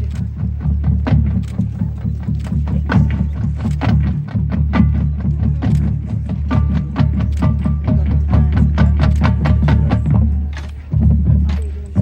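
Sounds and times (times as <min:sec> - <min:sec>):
marching band music: 0:00.0 - 0:12.0
percussion strikes: 0:00.0 - 0:12.0.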